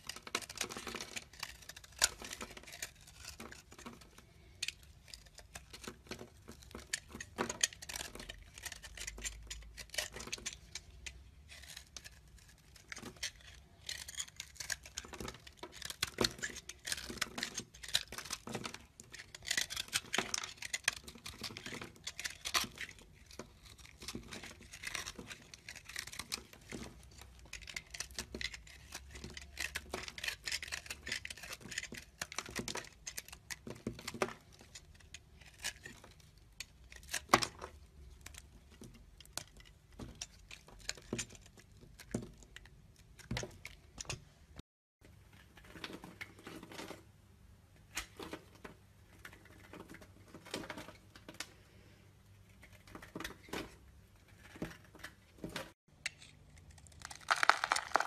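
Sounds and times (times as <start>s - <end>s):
knife cutting soap: 0.0s - 44.4s, 47.9s - 58.0s.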